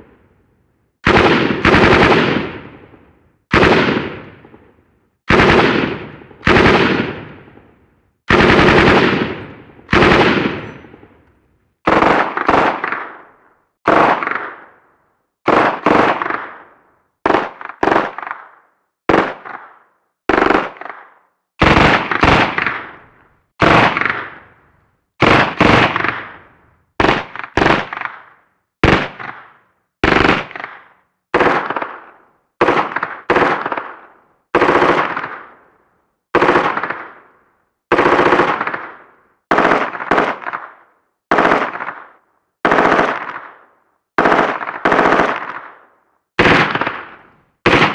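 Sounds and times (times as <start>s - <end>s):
gunfire bursts: 1.0s - 11.2s, 11.8s - 14.8s, 15.4s - 24.6s, 25.2s - 35.7s, 36.3s - 47.9s.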